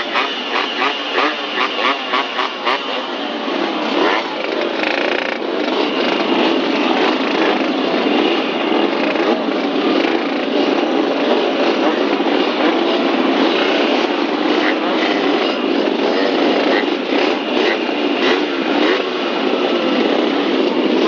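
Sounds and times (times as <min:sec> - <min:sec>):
old engine droning: 0:00.0 - 0:21.0.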